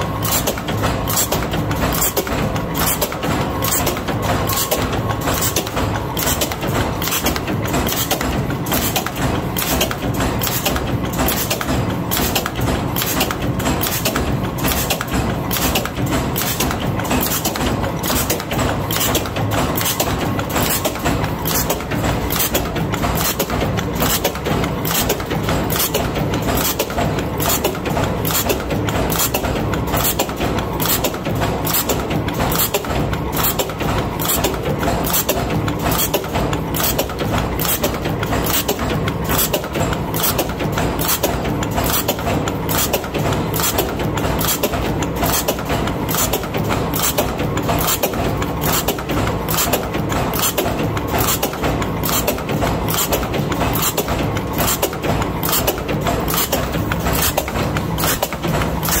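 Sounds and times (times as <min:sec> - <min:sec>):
power press stamping strokes: 0:00.0 - 0:59.0
steady machine hum: 0:00.0 - 0:59.0.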